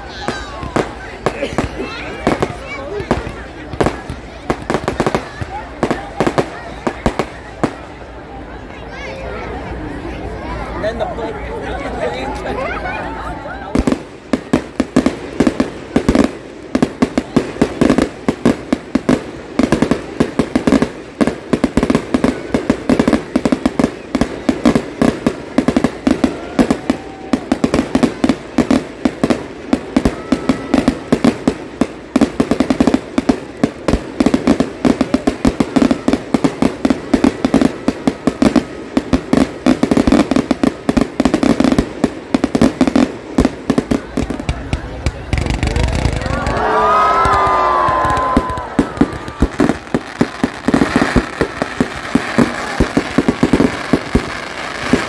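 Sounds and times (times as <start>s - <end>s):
fireworks launches and bangs: 0.0s - 8.2s, 13.6s - 55.0s.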